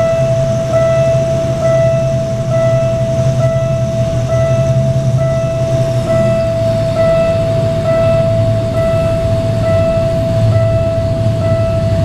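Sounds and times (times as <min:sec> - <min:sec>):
diesel locomotive rumble: 0:00.0 - 0:12.0
level-crossing two-note warning tone: 0:00.0 - 0:12.0.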